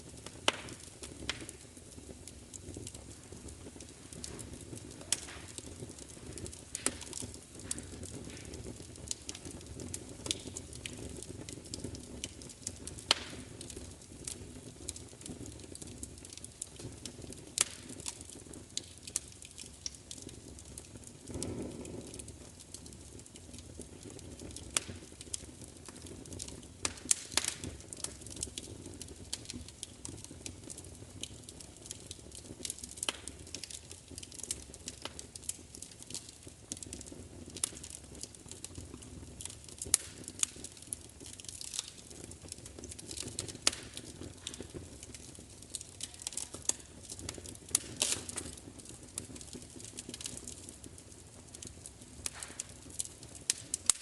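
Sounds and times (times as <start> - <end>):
fire popping and snapping: 0.0 - 54.0
low rumble of flame: 0.0 - 54.0.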